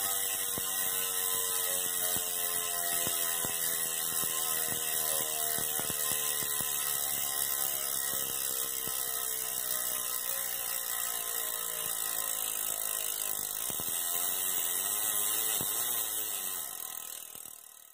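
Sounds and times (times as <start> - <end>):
bicycle freehub ratchet buzzing: 0.0 - 17.9.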